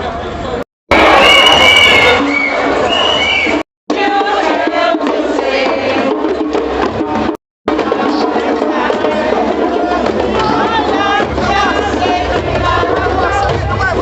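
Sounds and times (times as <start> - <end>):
crowd chanting and singing: 0.9 - 14.0
music: 1.1 - 14.0.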